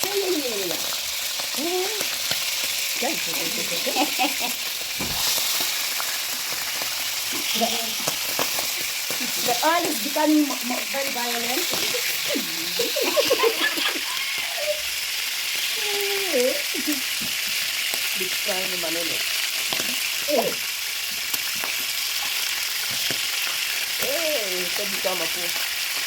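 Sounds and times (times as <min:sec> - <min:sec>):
oil sizzling with spattering pops: 0:00.0 - 0:26.0.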